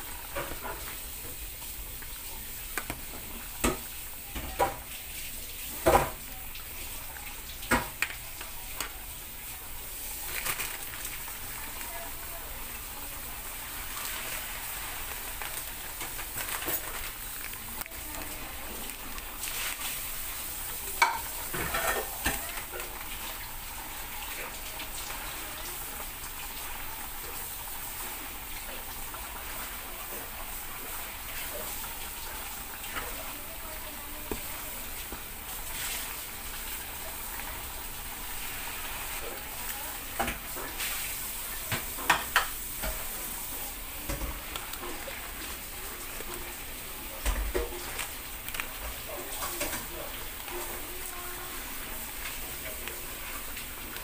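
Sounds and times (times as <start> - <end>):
noodles simmering in broth: 0.0 - 54.0.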